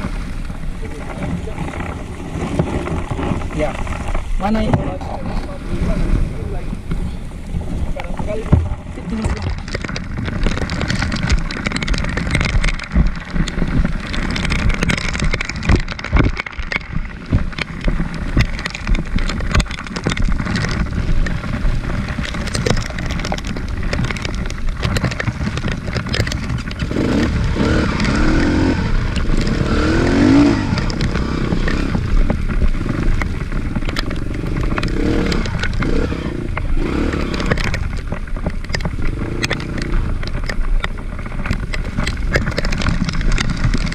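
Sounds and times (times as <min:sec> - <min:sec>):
motorcycle engine running: 0:00.0 - 0:43.9
scrapes and knocks: 0:06.8 - 0:43.9.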